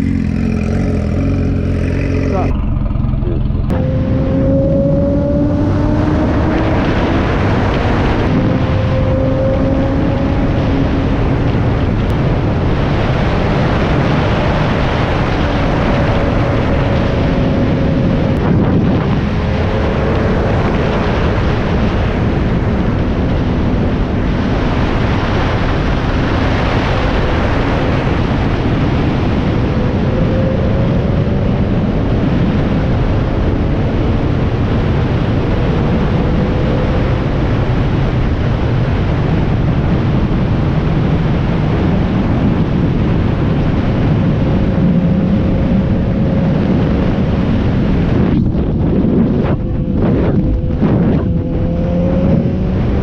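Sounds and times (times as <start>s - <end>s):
motorcycle engine hum: 0.0s - 53.0s
wind rushing over microphone: 0.0s - 53.0s.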